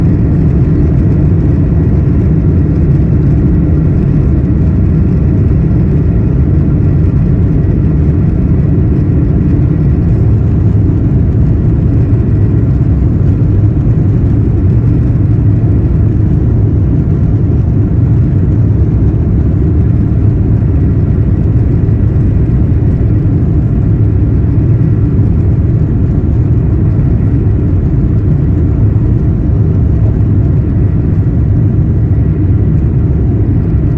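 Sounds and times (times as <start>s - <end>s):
jet engines at takeoff thrust: 0.0s - 33.9s.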